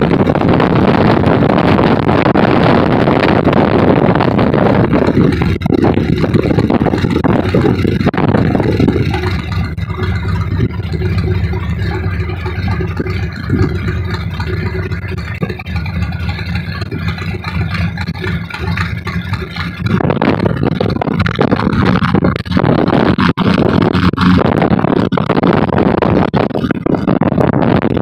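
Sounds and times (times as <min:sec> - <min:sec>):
loud rushing noise: 0:00.0 - 0:28.0
plane piston engines droning: 0:00.0 - 0:28.0.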